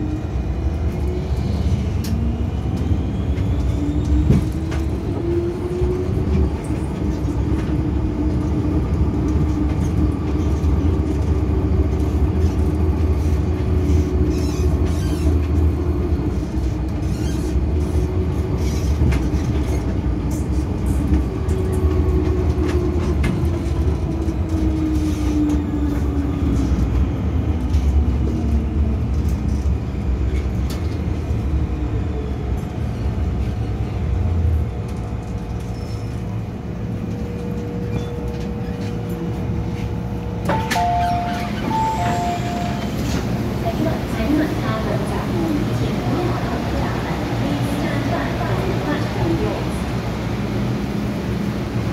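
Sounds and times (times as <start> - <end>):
train low rumble: 0.0 - 51.9.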